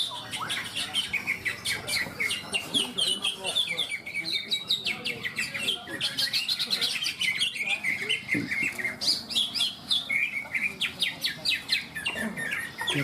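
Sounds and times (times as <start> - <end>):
caged birds chirping and trilling: 0.0 - 13.0.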